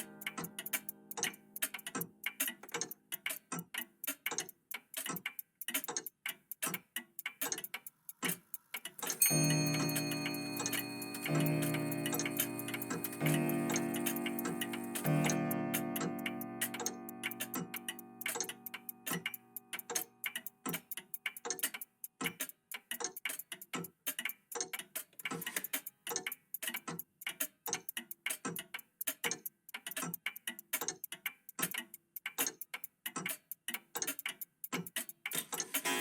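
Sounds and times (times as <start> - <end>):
mechanical clocks ticking: 0.0 - 36.0.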